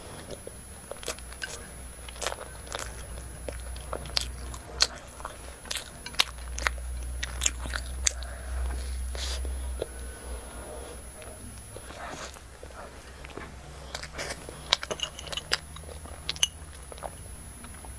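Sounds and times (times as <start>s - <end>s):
chewing crunchy pastry: 0.0s - 17.9s
steady low hum: 0.0s - 17.9s.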